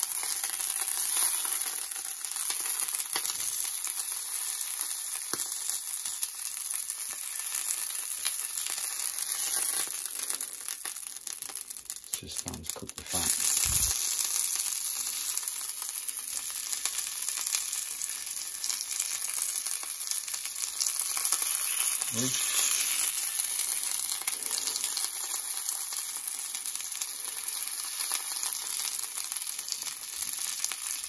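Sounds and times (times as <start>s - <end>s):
fat sizzling in a pan: 0.0s - 31.0s.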